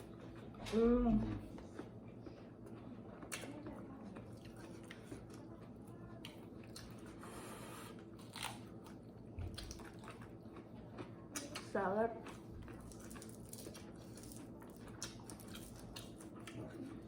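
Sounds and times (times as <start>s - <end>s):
person chewing crisp food: 1.4s - 17.0s.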